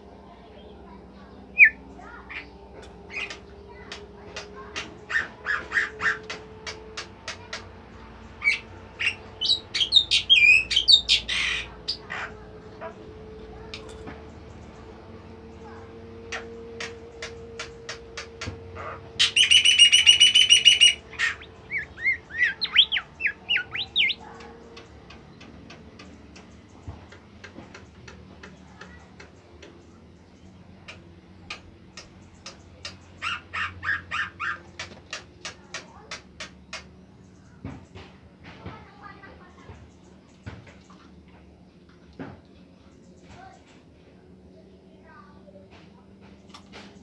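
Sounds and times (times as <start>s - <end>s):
songbird singing: 0.0s - 45.7s.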